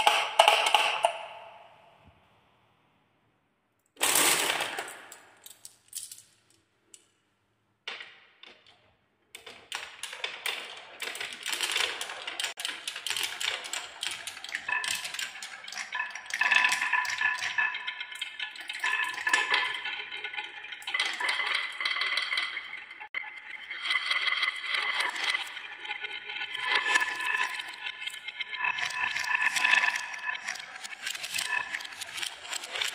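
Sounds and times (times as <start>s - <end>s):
marbles rattling on wooden tracks: 0.0s - 1.2s, 4.0s - 6.2s, 9.4s - 32.9s.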